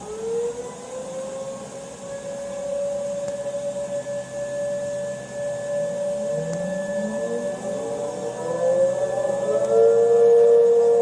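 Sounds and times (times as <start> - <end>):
fainter higher siren tone: 0.0 - 11.0
warning siren steady tone: 0.0 - 11.0.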